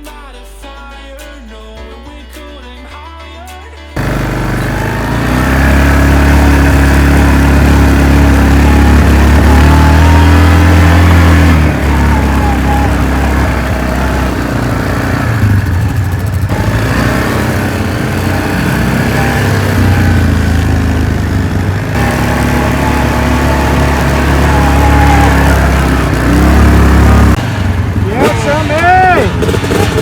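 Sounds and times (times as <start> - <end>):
off-road vehicle engine running: 4.0 - 30.0.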